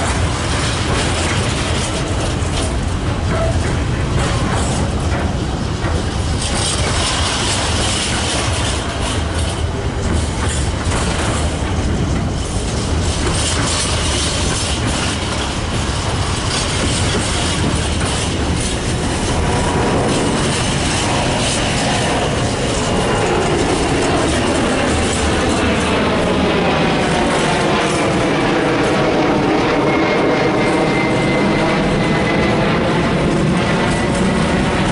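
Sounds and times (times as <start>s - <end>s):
freight train wheels clattering: 0.0s - 34.9s.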